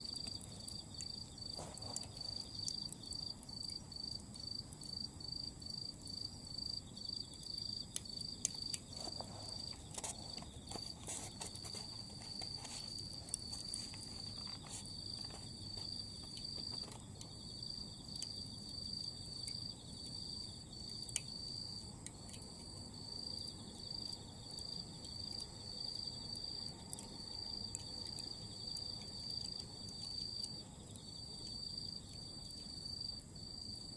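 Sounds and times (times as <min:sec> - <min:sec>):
charcoal popping and crackling: 0:00.0 - 0:32.9
crickets chirping: 0:00.0 - 0:33.9.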